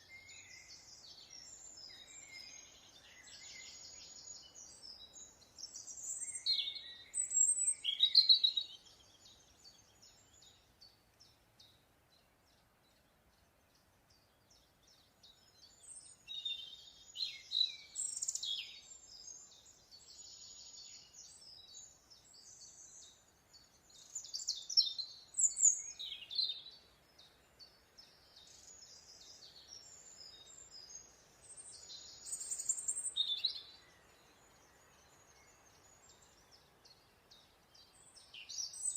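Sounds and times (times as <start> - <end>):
birds chirping and trilling: 0.0 - 38.9
faint steady hiss: 0.0 - 38.9.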